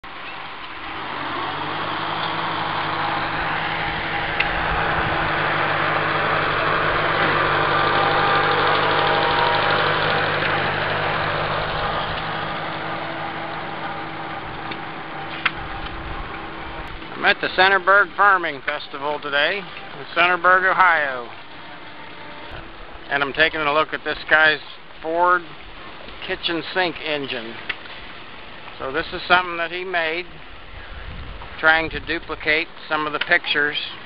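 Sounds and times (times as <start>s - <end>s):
tractor engine passing: 0.0s - 34.0s.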